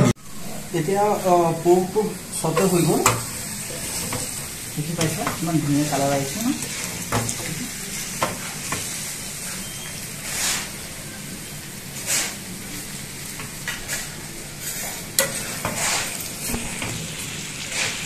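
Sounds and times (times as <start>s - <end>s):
food sizzling in oil: 0.1s - 18.0s
spatula scraping a wok: 2.3s - 10.9s, 11.9s - 18.0s.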